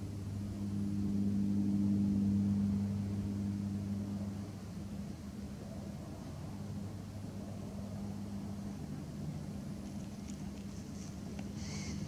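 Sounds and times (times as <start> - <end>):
distant engine drone: 0.0 - 12.0.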